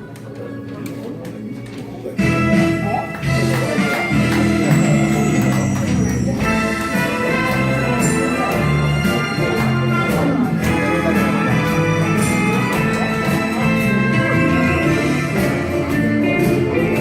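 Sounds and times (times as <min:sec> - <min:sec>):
instrumental backing music: 0:00.0 - 0:17.0.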